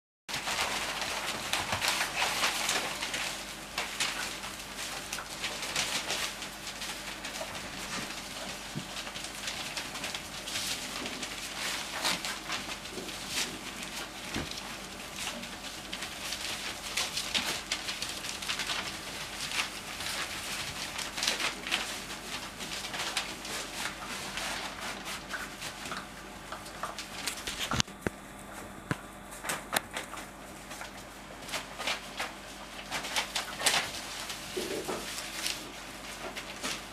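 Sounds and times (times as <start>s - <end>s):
newspaper rustling and crinkling: 0.3s - 36.9s.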